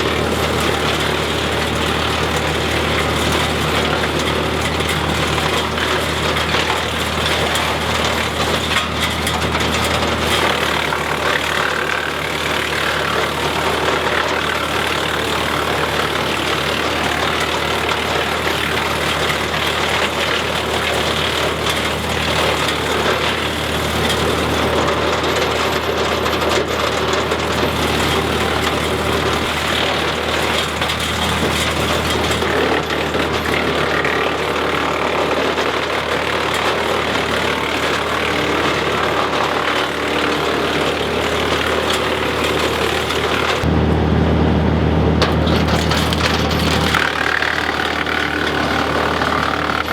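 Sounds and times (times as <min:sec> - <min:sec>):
tractor engine drone: 0:00.0 - 0:49.9
wood chipper rattling: 0:00.0 - 0:49.9.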